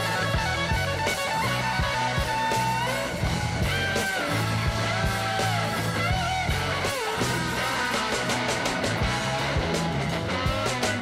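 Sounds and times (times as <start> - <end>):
lead guitar with bending notes: 0.0 - 11.0
steady drum beat: 0.0 - 11.0.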